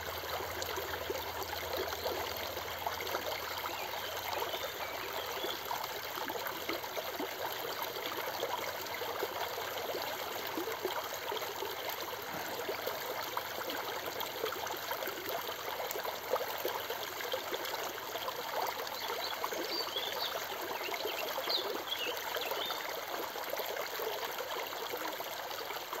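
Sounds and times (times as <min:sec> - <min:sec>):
creek babbling over stones: 0:00.0 - 0:26.0.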